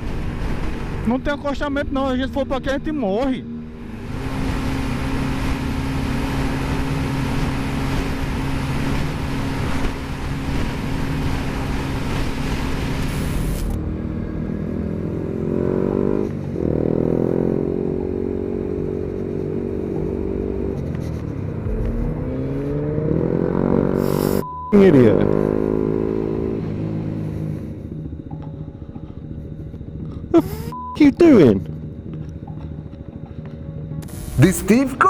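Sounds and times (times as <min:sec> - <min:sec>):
wind and road noise: 0:00.0 - 0:24.4, 0:25.1 - 0:30.4
motorcycle engine accelerating: 0:00.0 - 0:30.8.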